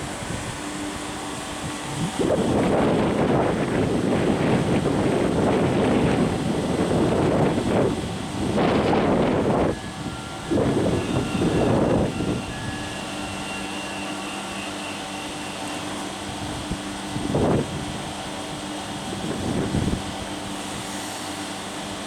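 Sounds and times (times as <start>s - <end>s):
faint whining tones: 0.0s - 18.2s
train rumbling: 0.0s - 22.0s.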